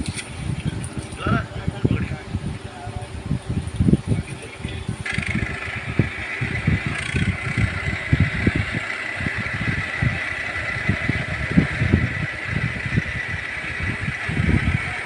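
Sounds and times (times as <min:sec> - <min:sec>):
steady high whine: 0:00.0 - 0:15.0
tractor engine running: 0:00.0 - 0:15.0.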